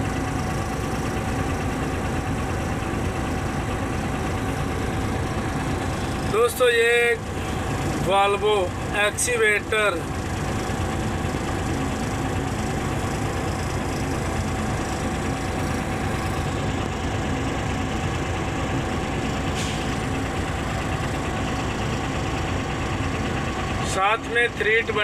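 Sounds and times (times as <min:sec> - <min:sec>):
excavator diesel engine running: 0:00.0 - 0:25.0
thin steady whine: 0:00.0 - 0:25.0.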